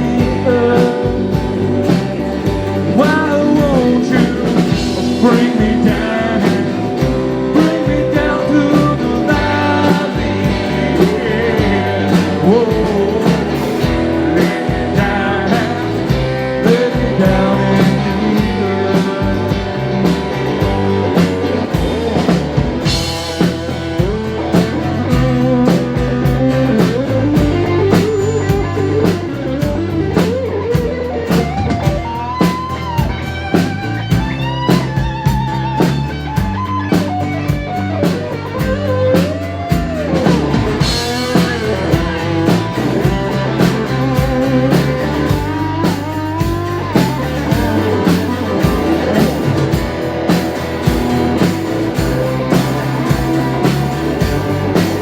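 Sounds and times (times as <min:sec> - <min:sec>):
blues-rock band playing: 0:00.0 - 0:55.0
electric lead guitar bending notes: 0:00.0 - 0:55.0.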